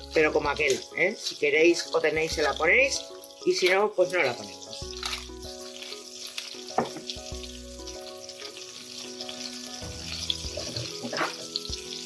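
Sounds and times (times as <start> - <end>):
meat frying in oil: 0.0 - 12.0.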